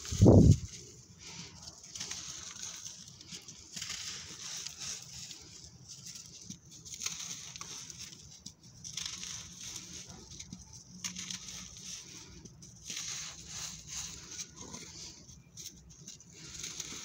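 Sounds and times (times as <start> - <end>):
loose sand trickling: 0.0 - 17.0
sand-cement blocks crunching: 0.0 - 17.0.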